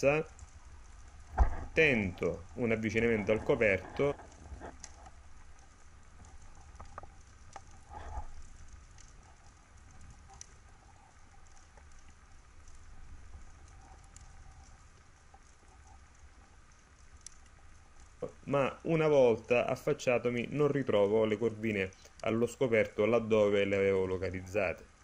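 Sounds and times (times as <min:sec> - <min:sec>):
underwater crackling ticks: 0:00.0 - 0:25.0.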